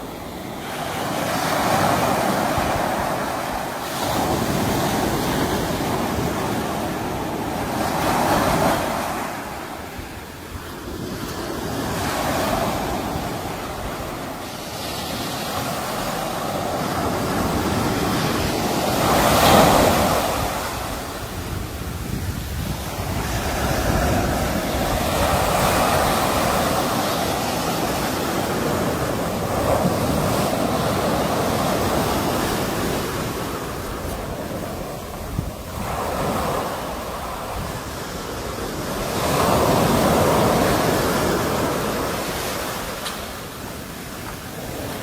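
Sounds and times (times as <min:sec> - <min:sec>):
sea waves breaking on shore: 0:00.0 - 0:45.0.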